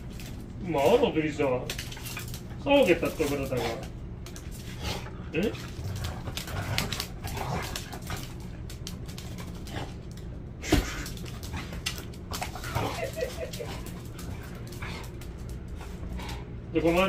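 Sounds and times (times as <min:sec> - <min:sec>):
dogs scuffling on concrete: 0:00.0 - 0:17.0.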